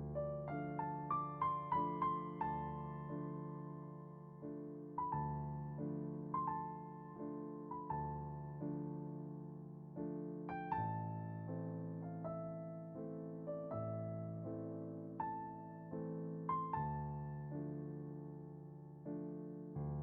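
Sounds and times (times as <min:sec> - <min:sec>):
slow soft piano music: 0:00.0 - 0:20.0.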